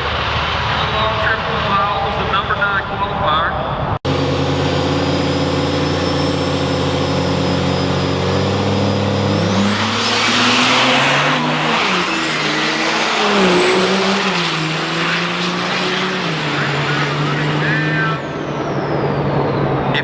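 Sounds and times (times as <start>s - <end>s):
diesel truck engine accelerating: 0.0s - 20.0s.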